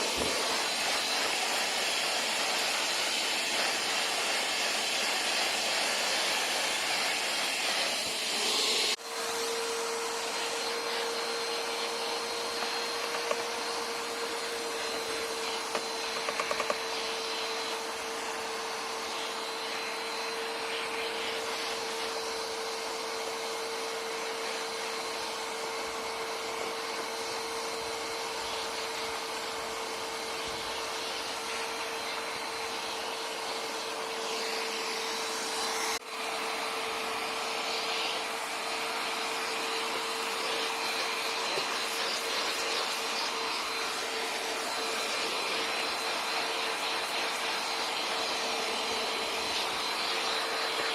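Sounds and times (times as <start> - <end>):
vacuum cleaner motor whine: 0.0 - 50.9.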